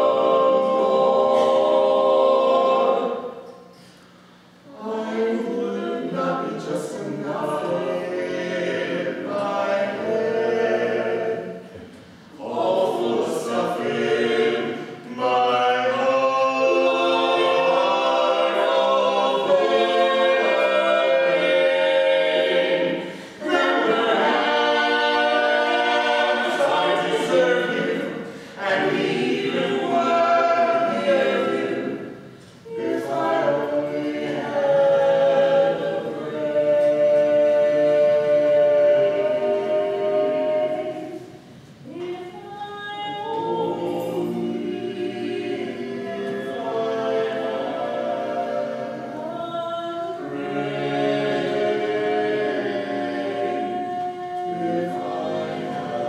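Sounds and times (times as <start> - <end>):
a cappella close harmony singing: 0.0 - 3.6, 4.6 - 56.0.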